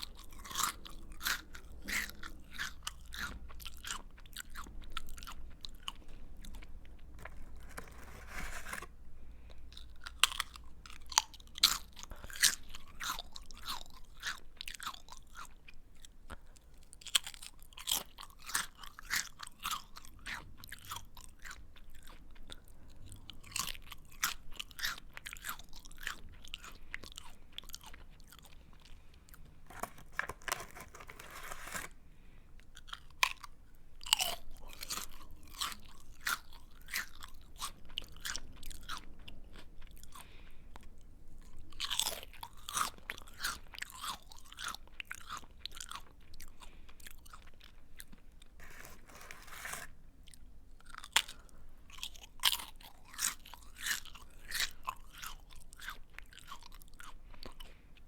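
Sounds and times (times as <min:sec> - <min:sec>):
crunchy snack chewing: 0:00.0 - 0:32.0, 0:32.6 - 0:57.8.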